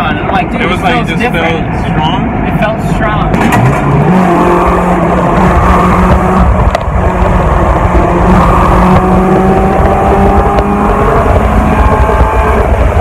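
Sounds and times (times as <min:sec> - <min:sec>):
car engine running: 0:00.0 - 0:13.0
road and wind noise: 0:00.0 - 0:13.0.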